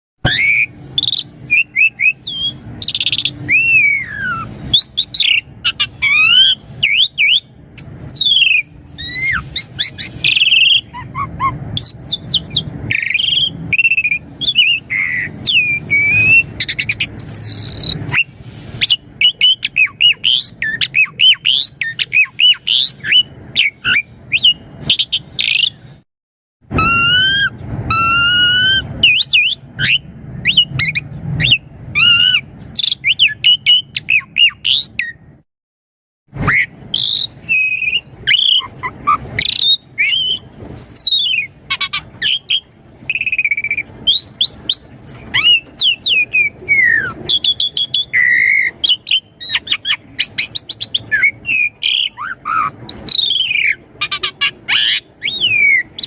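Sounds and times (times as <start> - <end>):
starling singing whistles: 0.2 - 25.8, 26.8 - 35.2, 36.4 - 56.0.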